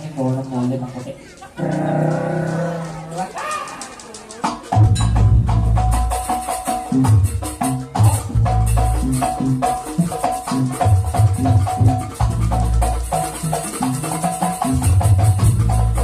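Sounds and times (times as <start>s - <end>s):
gamelan percussion music: 0.0s - 16.0s.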